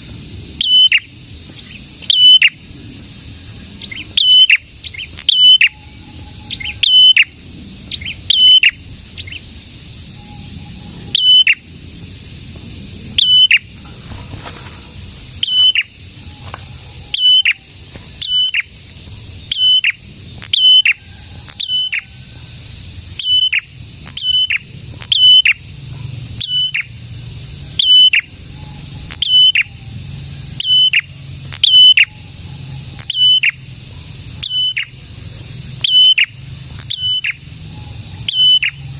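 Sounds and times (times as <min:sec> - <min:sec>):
songbird calling: 0:00.0 - 0:38.9.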